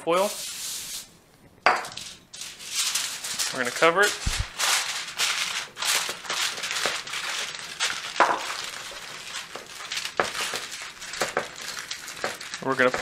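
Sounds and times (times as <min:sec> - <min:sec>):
aluminium foil crinkling: 0:01.9 - 0:13.0.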